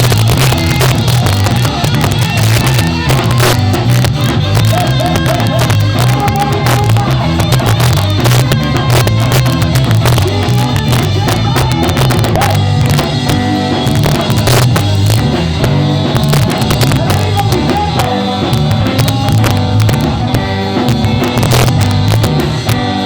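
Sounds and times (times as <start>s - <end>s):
live ska band playing: 0.0s - 23.0s.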